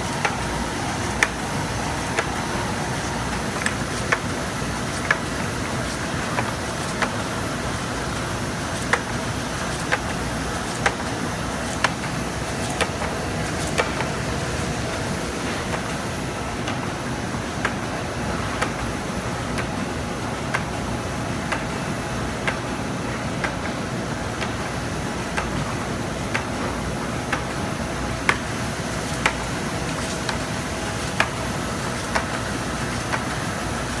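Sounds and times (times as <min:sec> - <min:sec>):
printing press mechanical hum: 0:00.0 - 0:34.0.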